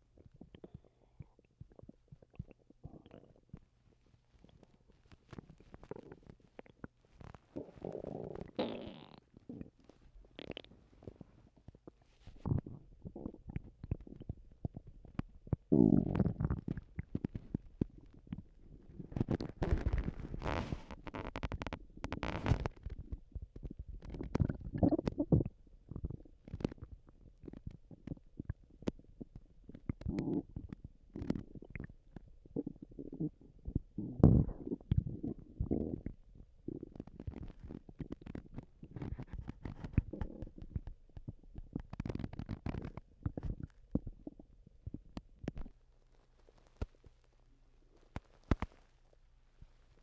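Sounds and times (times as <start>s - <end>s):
faint steady hum: 0.0s - 50.0s
stomach gurgling and rumbling: 0.0s - 50.0s
small clicks and pops: 0.1s - 50.0s.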